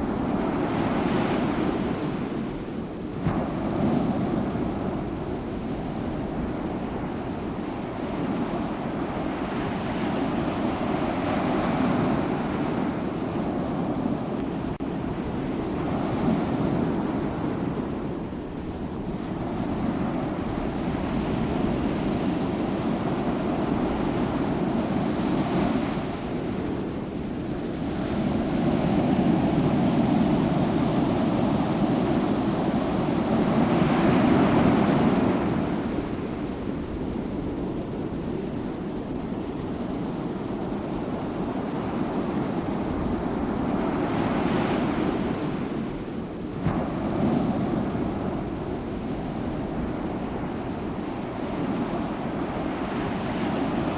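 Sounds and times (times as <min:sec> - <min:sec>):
sea waves surf: 0:00.0 - 0:53.9.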